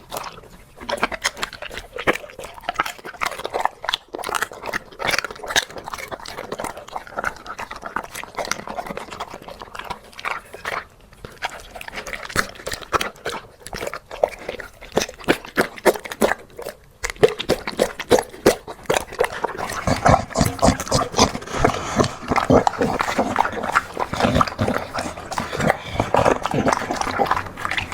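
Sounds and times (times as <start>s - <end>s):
dog chewing wetly: 0.0s - 27.9s.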